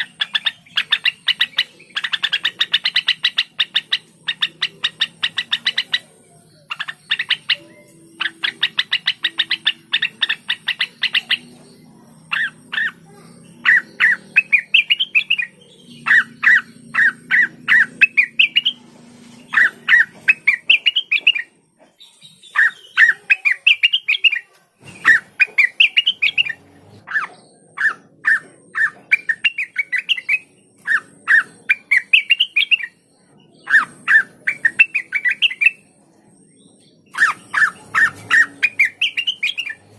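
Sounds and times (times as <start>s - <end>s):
bird singing trills and whistles: 0.0s - 18.8s, 19.4s - 39.9s.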